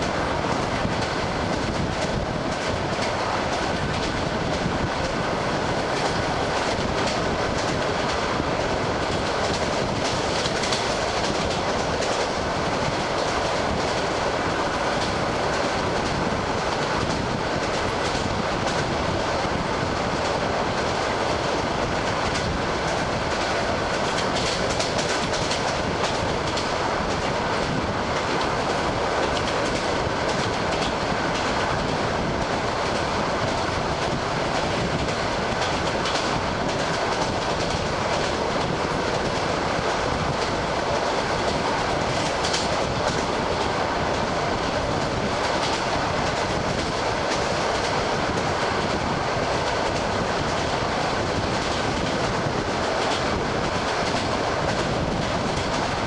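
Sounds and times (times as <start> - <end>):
train rumble and rushing: 0.0 - 56.0.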